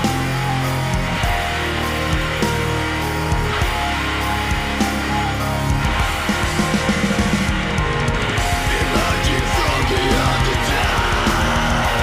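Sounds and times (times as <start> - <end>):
heavy metal band playing: 0.0 - 12.0.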